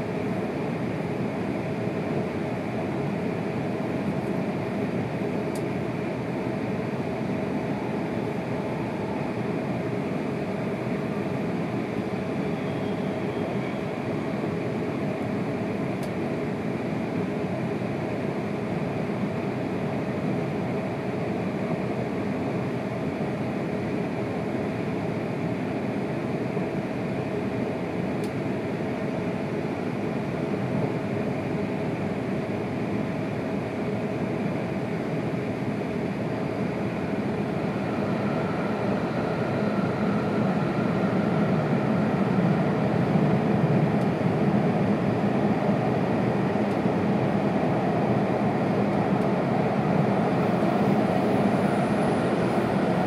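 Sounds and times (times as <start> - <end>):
train running rumble and rush: 0.0 - 53.0.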